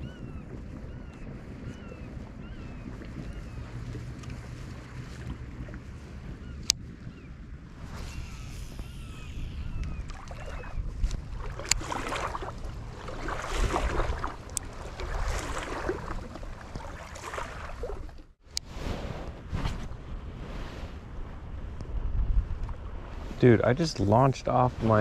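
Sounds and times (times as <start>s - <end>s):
water lapping around kayak: 0.0s - 25.0s
wind buffeting microphone: 0.0s - 25.0s.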